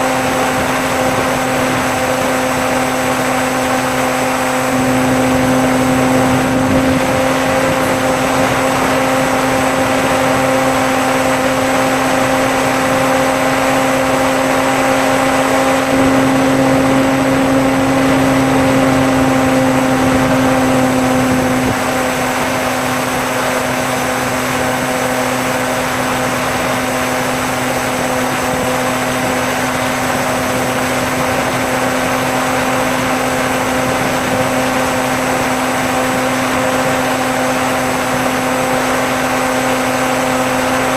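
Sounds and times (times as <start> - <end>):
model plane motor whining: 0.0 - 40.9.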